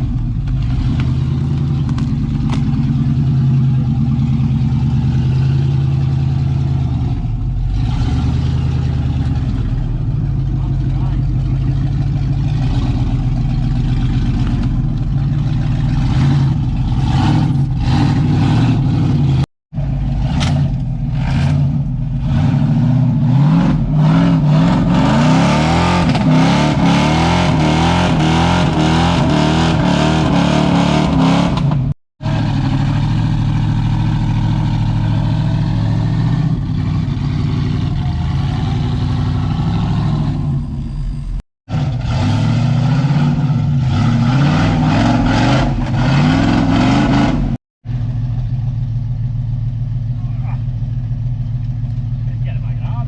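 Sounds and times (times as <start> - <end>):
truck engine revving: 0.0 - 47.6.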